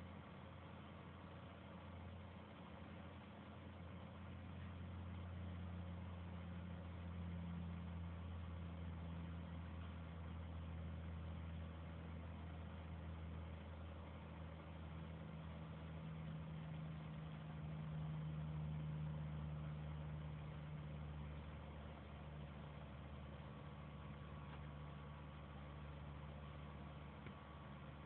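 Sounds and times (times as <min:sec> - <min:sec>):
low electrical hum with hiss: 0:00.0 - 0:28.0.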